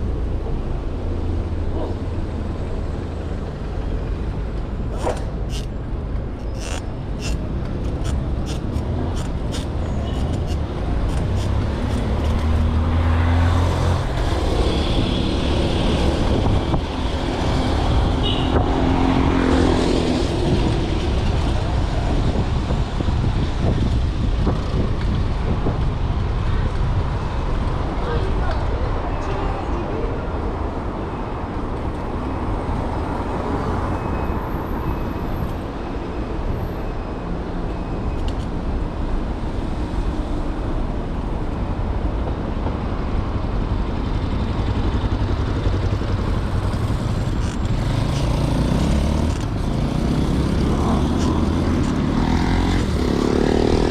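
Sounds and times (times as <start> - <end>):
car and bus engines humming: 0.0 - 53.9
passing vehicles: 0.0 - 53.9.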